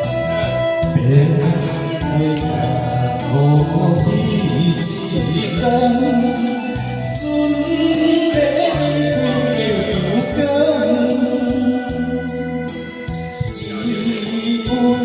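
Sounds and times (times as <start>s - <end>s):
instrumental ballad backing track: 0.0s - 15.0s.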